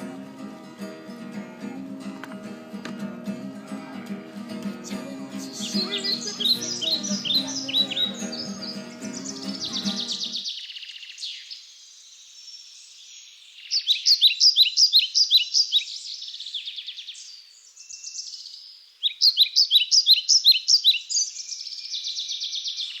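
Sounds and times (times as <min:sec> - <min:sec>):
songbird chirping: 0:00.0 - 0:23.0.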